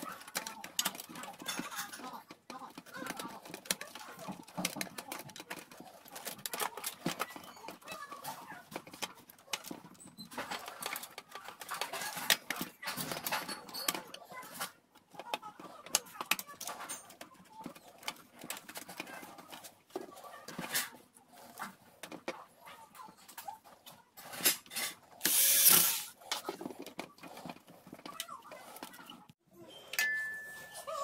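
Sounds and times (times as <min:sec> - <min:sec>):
plastic parts clicking and tapping: 0:00.0 - 0:29.4.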